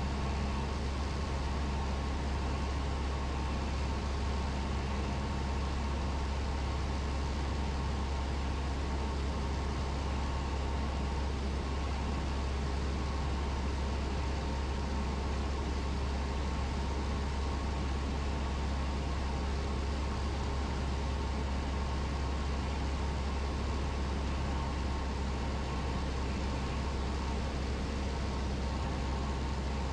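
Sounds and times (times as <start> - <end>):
aircraft engine drone in cockpit: 0.0 - 29.9.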